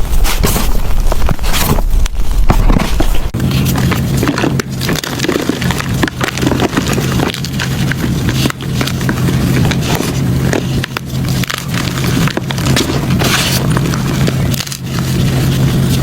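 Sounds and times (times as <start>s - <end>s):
chalk crunching and crackling: 0.0s - 16.0s
steady low hum: 0.0s - 16.0s.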